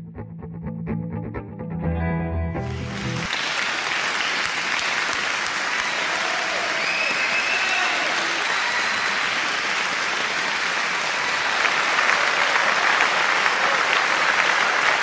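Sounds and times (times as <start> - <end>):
crowd clapping: 2.6 - 15.0.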